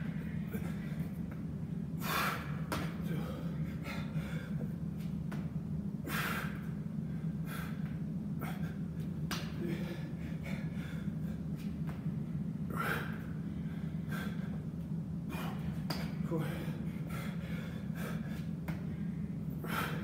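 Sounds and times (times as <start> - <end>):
man breathing hard: 0.0 - 5.1, 6.0 - 20.0
steady low hum: 0.0 - 20.0.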